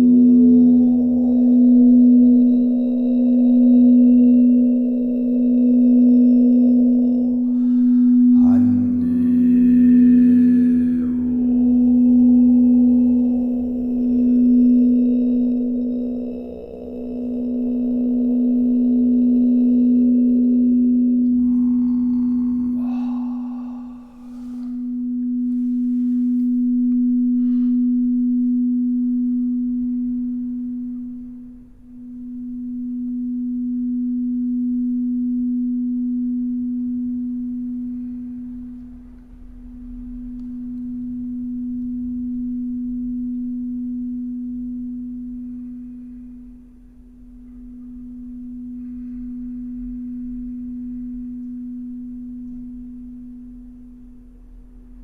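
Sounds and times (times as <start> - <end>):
sustained low tone: 0.0 - 55.0.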